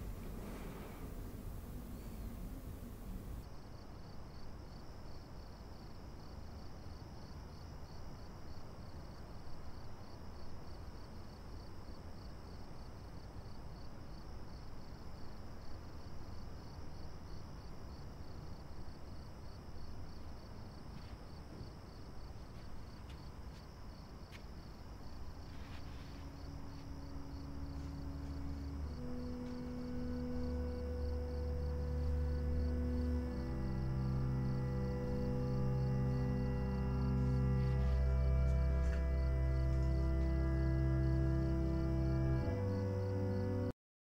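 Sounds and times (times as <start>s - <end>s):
cricket chirping: 0.0s - 43.7s
low night ambience rumble: 0.0s - 43.7s.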